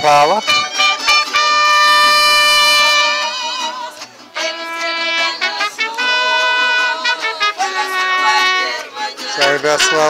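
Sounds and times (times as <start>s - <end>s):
mariachi band playing: 0.0s - 10.0s.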